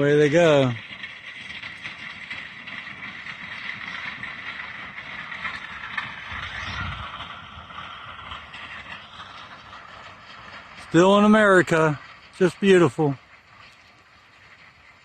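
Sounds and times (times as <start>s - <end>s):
metal wheels rattling and grinding: 0.0s - 13.8s
low rumble: 0.0s - 15.0s.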